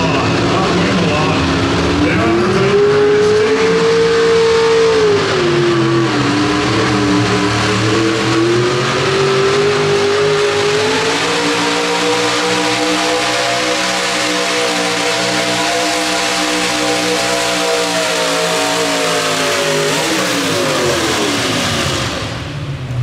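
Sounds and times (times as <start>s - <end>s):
pulling truck engine revving: 0.0s - 23.0s.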